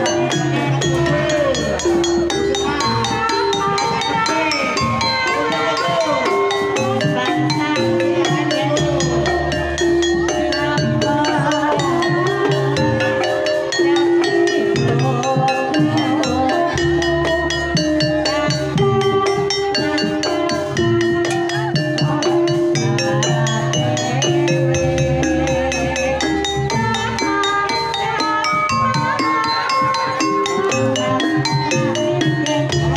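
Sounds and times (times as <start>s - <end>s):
gamelan ensemble: 0.0s - 32.9s
hand drum: 0.0s - 32.9s
woman singing through a microphone: 0.0s - 32.9s.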